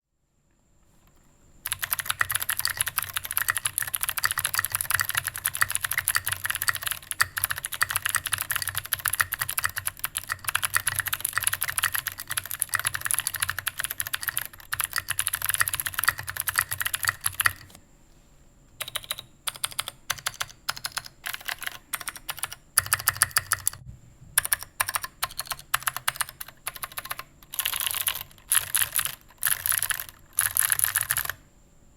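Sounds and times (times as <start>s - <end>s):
clicky mechanical keyboard typing: 1.6s - 17.8s, 18.8s - 23.8s, 24.4s - 31.4s.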